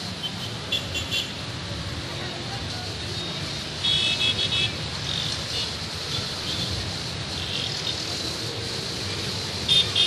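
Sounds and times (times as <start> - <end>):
rumble of passing traffic: 0.0 - 10.0.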